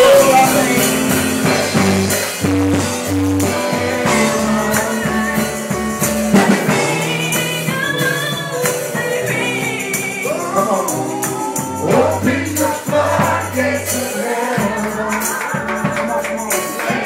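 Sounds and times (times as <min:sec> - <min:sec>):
drums and tambourine: 0:00.0 - 0:17.0
faint voices singing: 0:00.0 - 0:17.0
worship band playing: 0:00.0 - 0:17.0.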